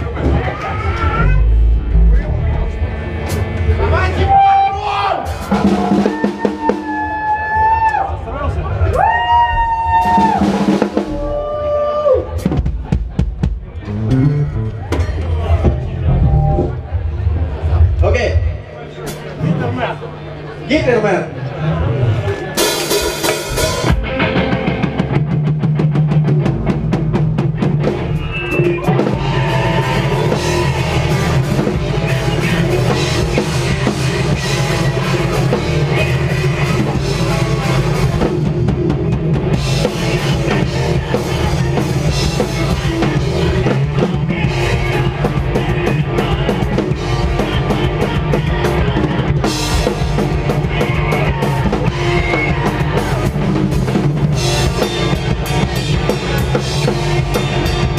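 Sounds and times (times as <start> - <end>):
drum kit: 0.0 - 8.1, 9.0 - 19.4, 22.5 - 57.9
electric guitars and bass: 0.0 - 57.9.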